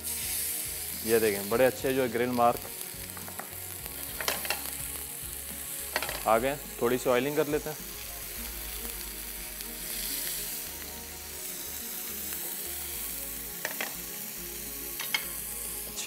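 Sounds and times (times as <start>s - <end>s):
patty sizzling in oil: 0.0s - 16.0s.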